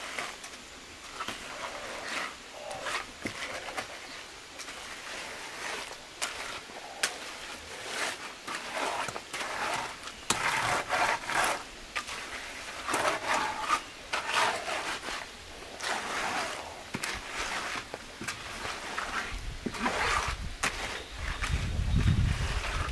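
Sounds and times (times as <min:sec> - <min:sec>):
float scraping wet concrete: 0:00.0 - 0:22.9.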